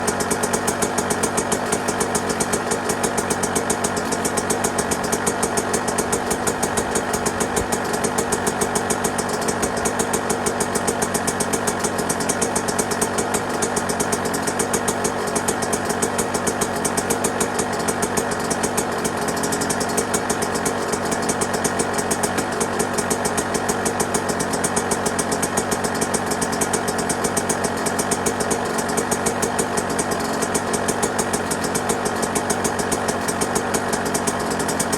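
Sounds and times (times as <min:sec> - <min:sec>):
two-stroke engine idling: 0:00.0 - 0:34.9.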